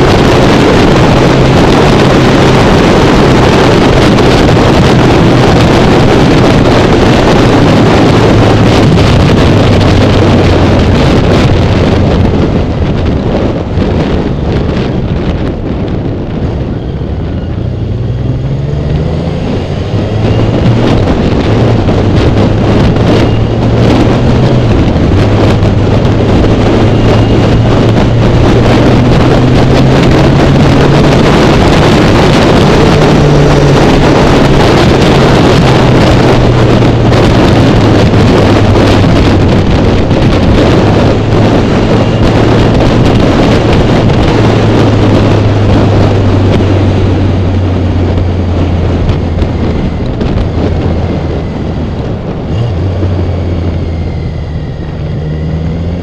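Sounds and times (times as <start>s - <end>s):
motorcycle engine accelerating: 0.0s - 56.0s
wind buffeting microphone: 0.0s - 56.0s.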